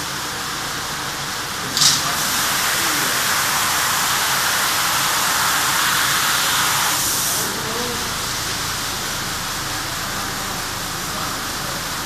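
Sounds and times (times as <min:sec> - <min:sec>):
water spray hissing: 0:01.7 - 0:12.0.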